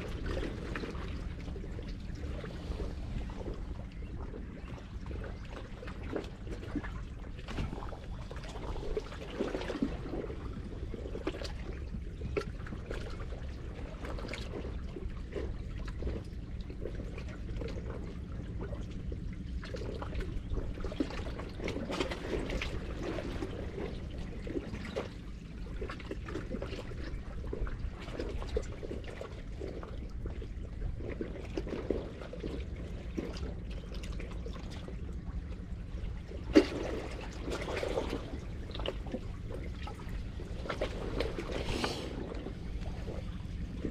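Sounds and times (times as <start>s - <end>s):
low steady rumble: 0.0s - 43.9s
seawater sloshing and gurgling: 0.0s - 43.9s.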